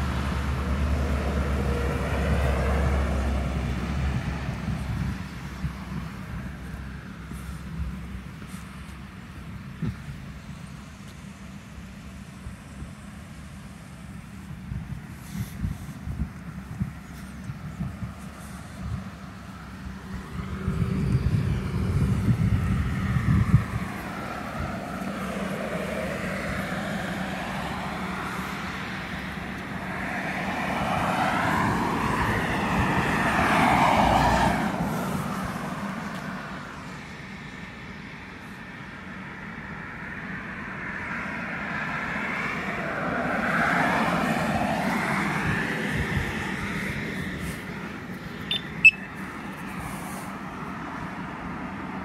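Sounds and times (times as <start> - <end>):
cars passing by: 0.0 - 52.0.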